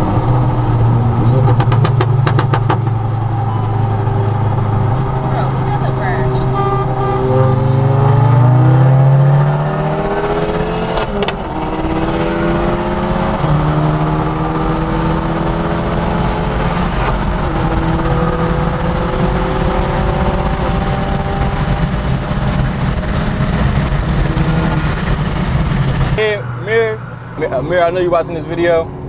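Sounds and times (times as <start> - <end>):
car engine accelerating hard: 0.0 - 29.0.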